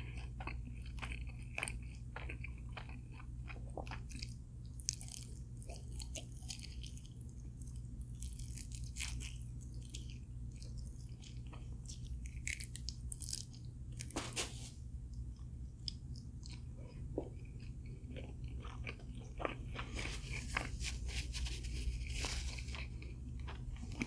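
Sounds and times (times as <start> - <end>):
chewing and crunching food: 0.0 - 24.0
low steady hum: 0.0 - 24.0.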